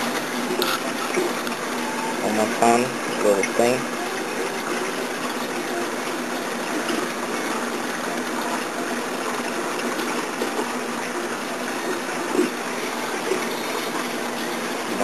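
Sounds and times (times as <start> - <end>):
faint pump hum: 0.0 - 15.0
rush of running water: 0.0 - 15.0.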